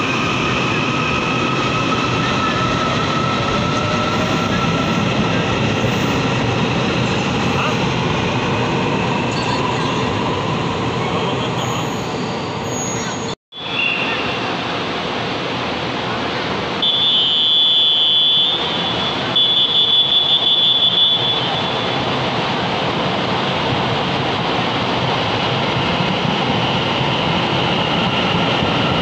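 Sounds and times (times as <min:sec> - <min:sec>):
train rumbling: 0:00.0 - 0:16.8, 0:21.2 - 0:29.0.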